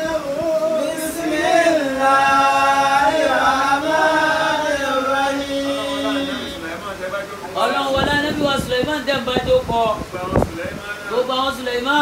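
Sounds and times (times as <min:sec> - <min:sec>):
man chanting a prayer: 0:00.0 - 0:12.0.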